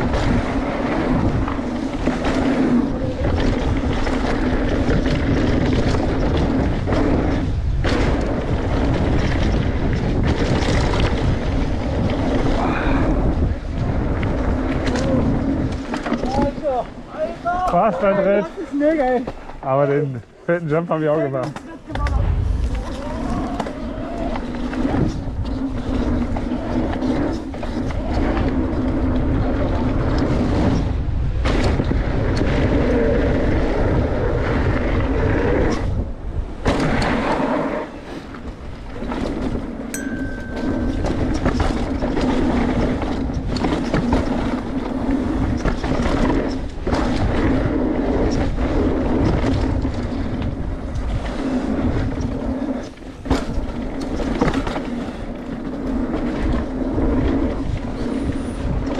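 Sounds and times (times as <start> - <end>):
bike frame and drivetrain rattle: 0.0 - 19.6, 21.3 - 58.9
bike tyre rumble: 0.0 - 20.0, 21.4 - 58.9.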